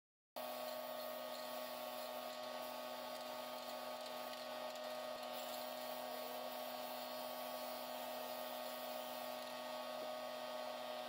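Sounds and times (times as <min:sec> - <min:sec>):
spray paint can hissing: 0:00.4 - 0:09.8.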